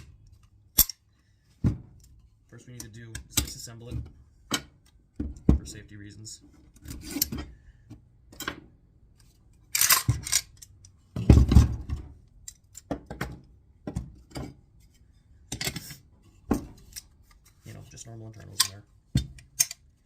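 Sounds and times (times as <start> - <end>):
rifle parts metallic clicks and clanks: 0.0 - 3.9, 6.6 - 17.6, 18.2 - 20.0.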